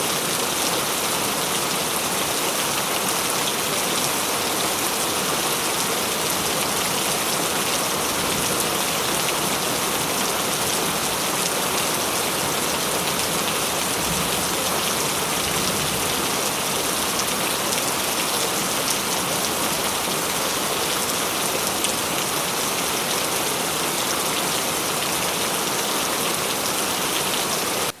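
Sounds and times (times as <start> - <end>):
rain pattering on surfaces: 0.3 - 28.0.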